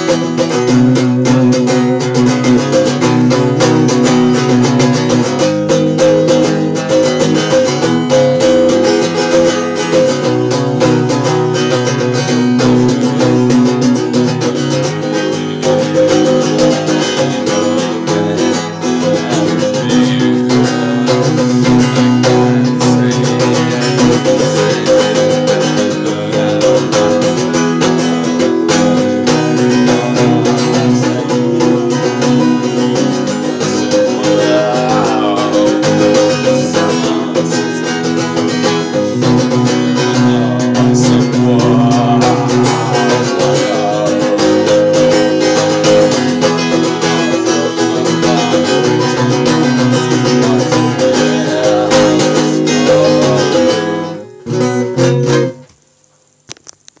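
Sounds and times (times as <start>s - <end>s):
man singing: 0.0s - 55.6s
guitar strumming chords: 0.0s - 56.8s.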